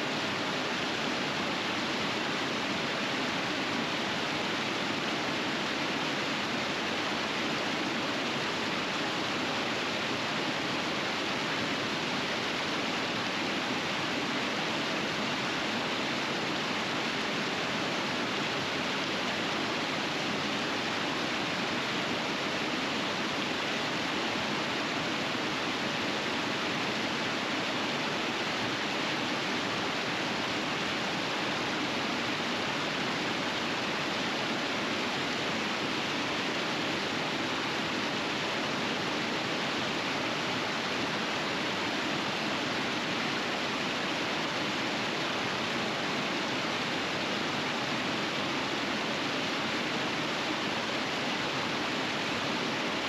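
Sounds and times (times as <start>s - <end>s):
river rapids rushing: 0.0s - 53.0s.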